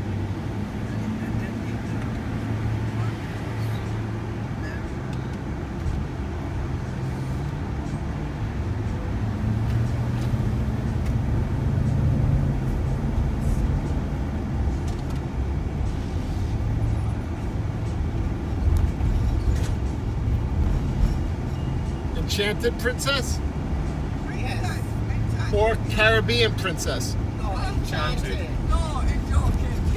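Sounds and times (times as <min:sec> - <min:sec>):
van engine and tyres droning: 0:00.0 - 0:29.9.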